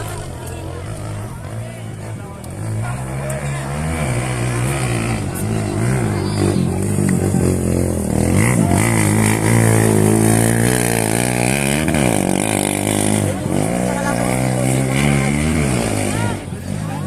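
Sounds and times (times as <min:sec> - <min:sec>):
racing engines revving: 0:00.0 - 0:17.0.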